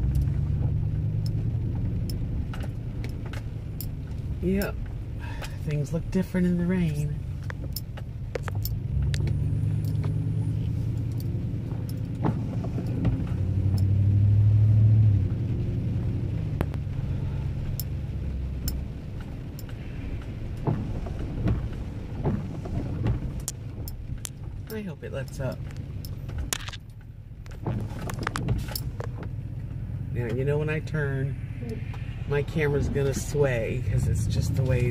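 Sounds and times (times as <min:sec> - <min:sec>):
vehicle engine and road drone: 0:00.0 - 0:34.9.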